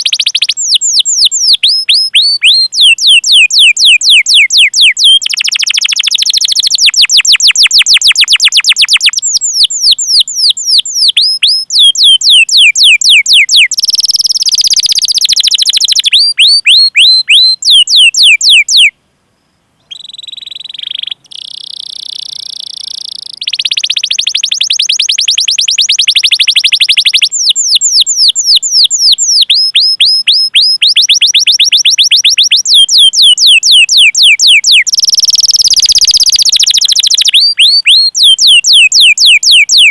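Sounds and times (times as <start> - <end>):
canary singing: 0.0 - 19.0, 19.8 - 39.9.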